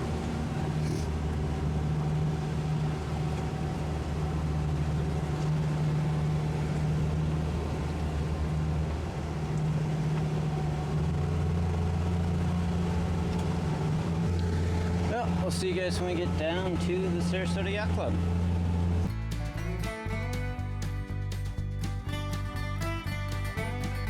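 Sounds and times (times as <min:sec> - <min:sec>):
outboard motors droning: 0:00.0 - 0:24.0.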